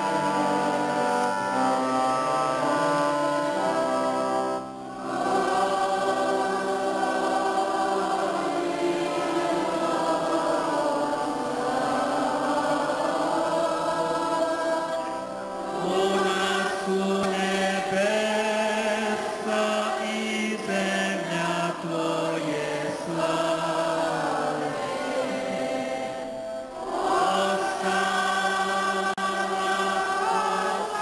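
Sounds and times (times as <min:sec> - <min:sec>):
congregation singing a hymn: 0:00.0 - 0:31.0.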